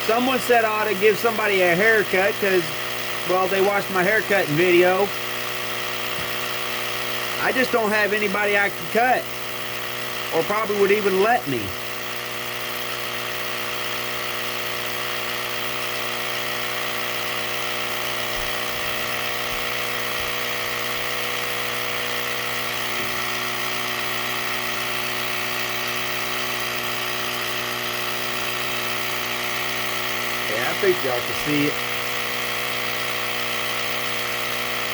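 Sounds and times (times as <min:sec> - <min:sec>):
air compressor motor buzzing: 0:00.0 - 0:34.9.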